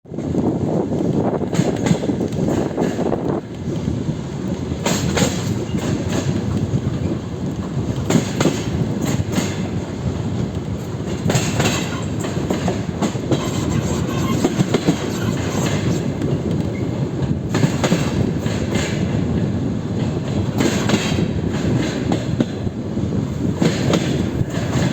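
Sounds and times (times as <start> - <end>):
train wheels clattering over rail joints: 0.2 - 24.9.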